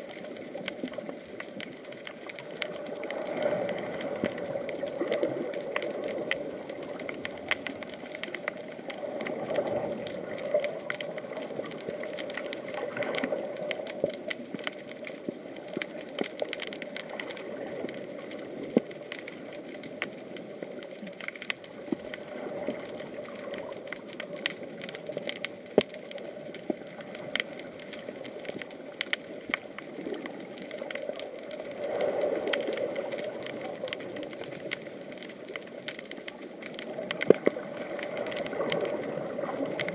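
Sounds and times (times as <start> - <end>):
muffled underwater wash: 0.0 - 39.9
sharp underwater clicks and crackles: 0.0 - 39.9.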